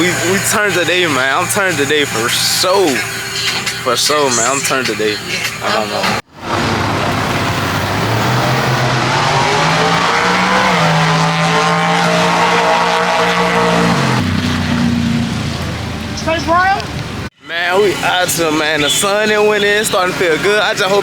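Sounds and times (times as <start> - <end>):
car engine at high revs: 0.0 - 17.3.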